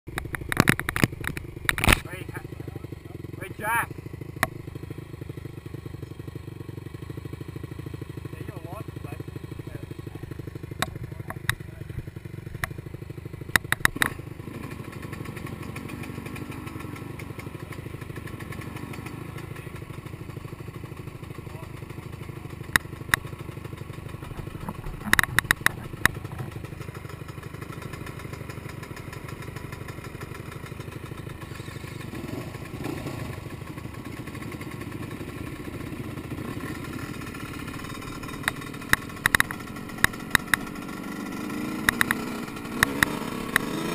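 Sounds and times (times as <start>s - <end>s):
two-stroke dirt bike engine: 0.1s - 43.9s.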